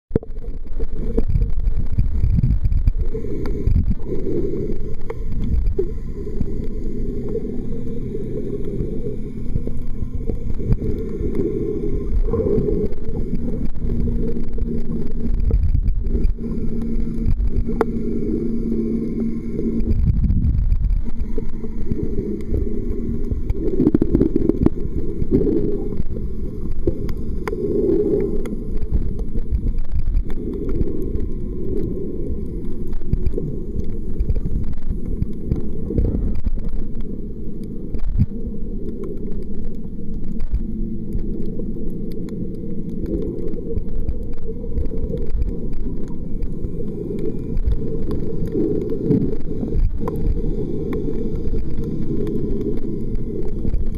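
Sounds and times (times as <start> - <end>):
faint clicks: 0.1 - 7.5, 8.3 - 53.9
muffled underwater rumble: 0.1 - 53.9.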